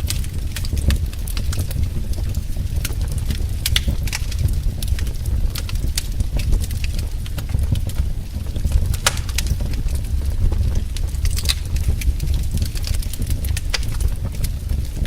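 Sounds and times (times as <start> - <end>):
low rumble of flames: 0.0 - 15.0
sharp fire pops and snaps: 0.0 - 15.0
wood fire crackling: 0.0 - 15.0.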